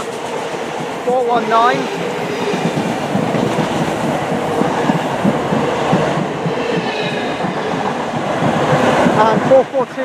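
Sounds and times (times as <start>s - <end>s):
train wheels clattering: 0.0s - 10.0s.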